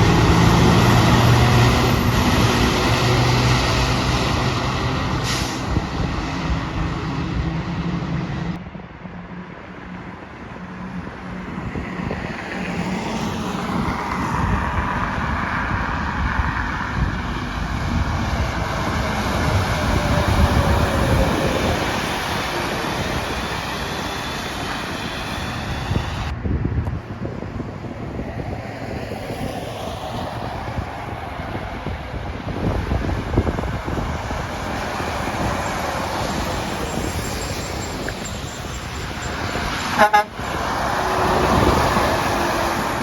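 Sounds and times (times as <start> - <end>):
trucks and traffic passing: 0.0 - 43.0.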